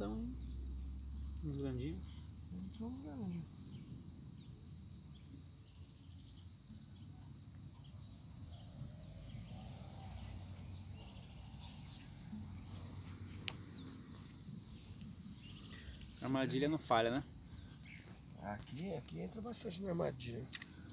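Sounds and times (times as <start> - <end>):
insects shrilling: 0.0 - 20.9.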